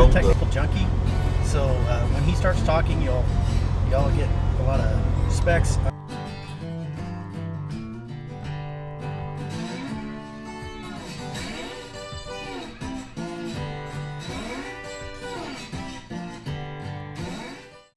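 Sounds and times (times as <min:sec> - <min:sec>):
guitar with bending notes: 0:00.0 - 0:17.9.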